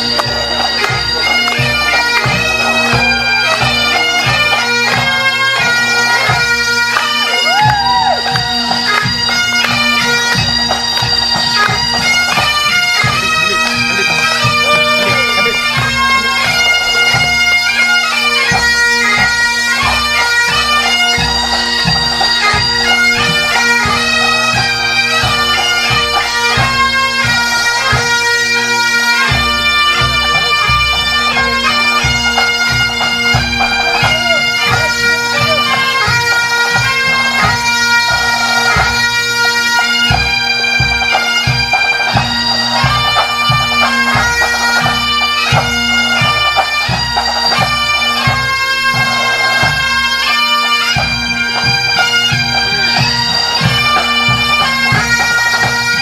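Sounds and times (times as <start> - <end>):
bagpipes playing a march: 0.0 - 56.0
drums beating time: 7.3 - 28.1, 29.3 - 39.0, 39.8 - 56.0.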